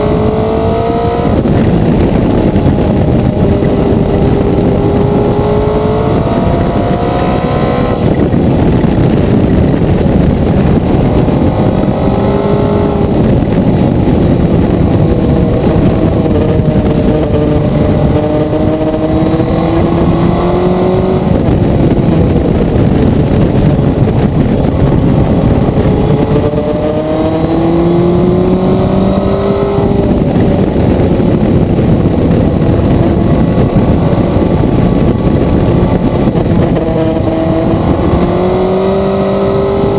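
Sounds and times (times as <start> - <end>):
motorcycle engine revving: 0.0 - 39.9
rushing wind noise: 0.0 - 39.9.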